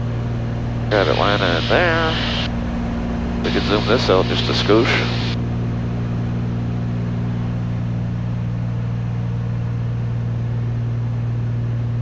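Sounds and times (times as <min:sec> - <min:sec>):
airplane engines droning in cabin: 0:00.0 - 0:12.0.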